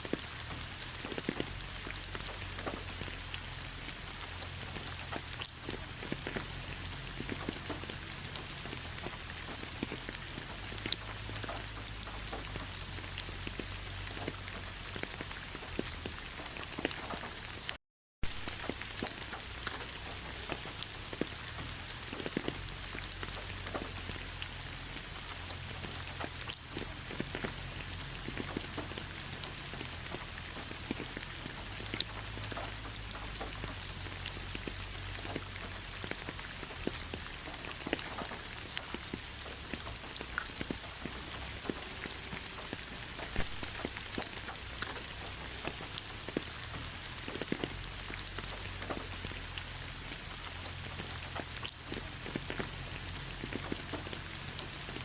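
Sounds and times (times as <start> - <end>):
rain hiss: 0.0 - 55.0
raindrops ticking on leaves: 0.0 - 55.0.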